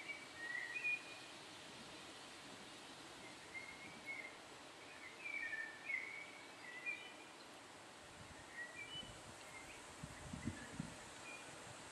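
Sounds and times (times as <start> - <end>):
steady outdoor hiss: 0.0 - 11.9.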